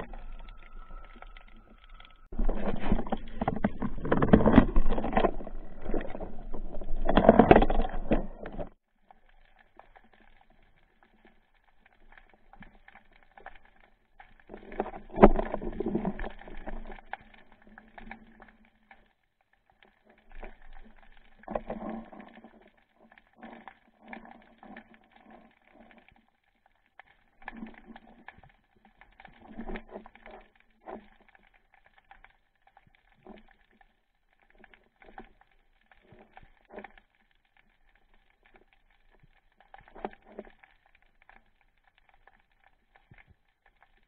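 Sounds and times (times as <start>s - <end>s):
small clicks and crackles: 0.0s - 44.0s.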